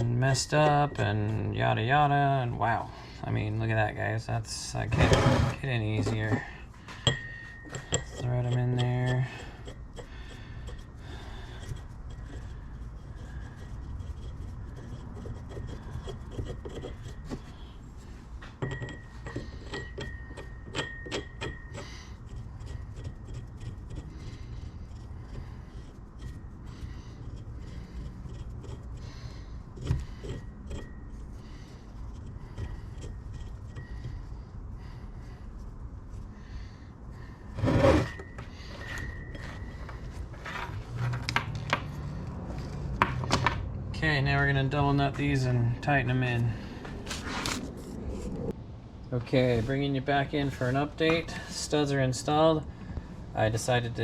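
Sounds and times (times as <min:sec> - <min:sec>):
metal scraping against threads: 0:00.0 - 0:43.4.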